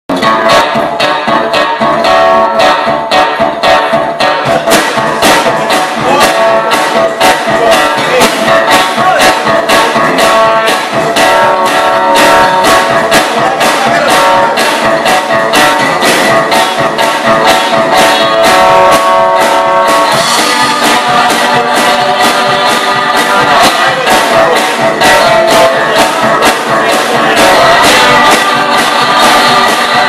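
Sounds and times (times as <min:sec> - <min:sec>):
strummed guitar: 0:00.1 - 0:30.0.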